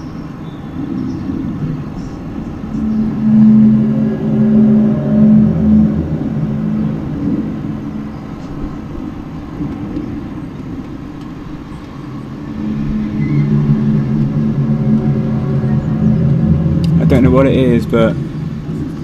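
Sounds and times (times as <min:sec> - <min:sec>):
low droning hum: 0:00.0 - 0:19.0
low rumble: 0:00.0 - 0:19.0.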